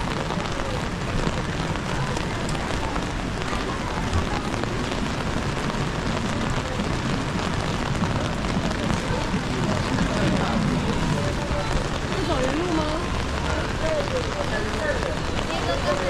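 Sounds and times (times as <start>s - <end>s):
rain on an umbrella: 0.0s - 16.0s.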